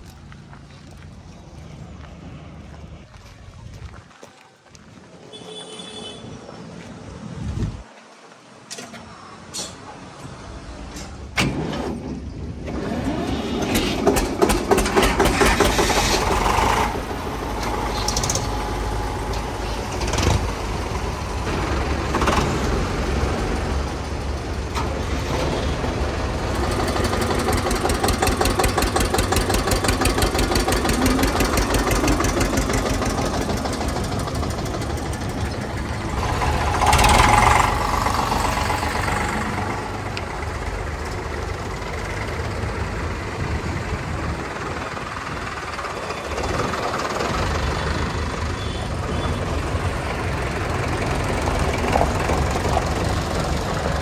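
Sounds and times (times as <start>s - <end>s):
diesel tractor engines idling: 8.7s - 54.0s.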